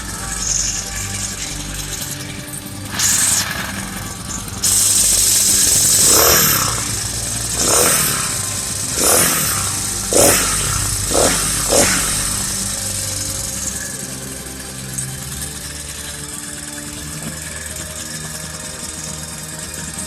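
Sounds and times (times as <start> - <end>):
small engine revving: 0.0 - 20.0.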